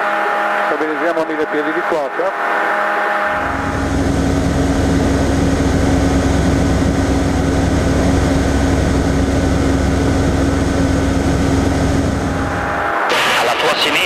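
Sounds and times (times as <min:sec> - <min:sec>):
aircraft engine and propeller drone: 0:02.4 - 0:14.0.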